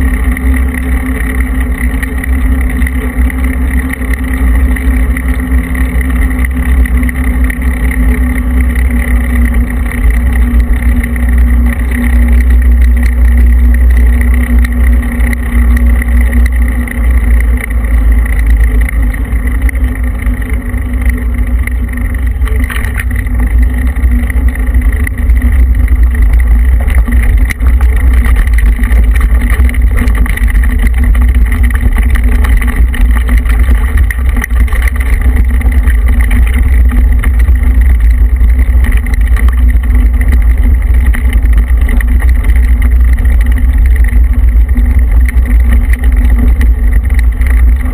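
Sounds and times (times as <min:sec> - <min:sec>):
tyres rolling on road: 0:00.0 - 0:47.9.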